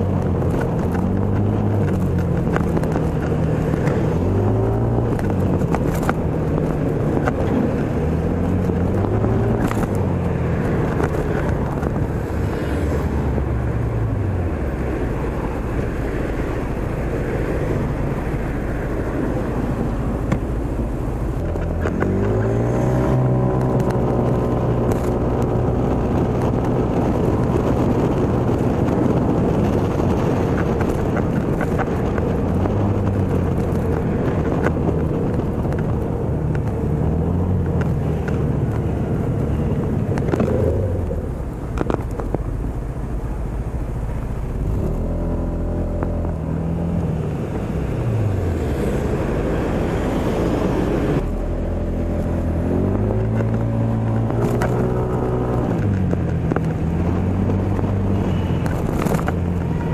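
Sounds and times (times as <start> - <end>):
road noise rushing: 0.0 - 59.9
vehicle engine speeding up and slowing: 0.0 - 59.9.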